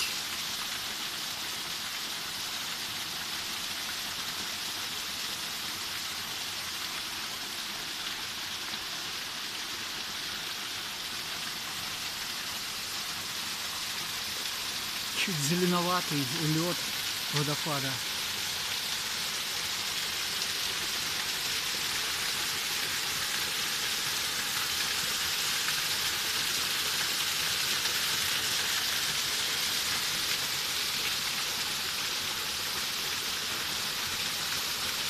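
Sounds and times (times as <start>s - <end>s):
waterfall splashing into stream: 0.0s - 35.0s.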